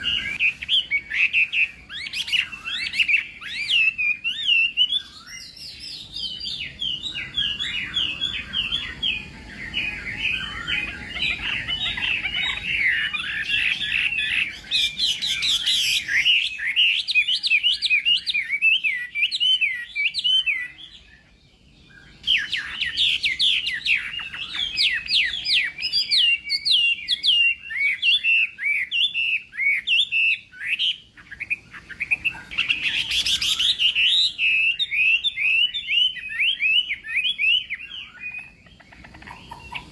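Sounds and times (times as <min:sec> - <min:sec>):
bird singing whistled phrases: 0:00.0 - 0:21.2, 0:21.9 - 0:39.9.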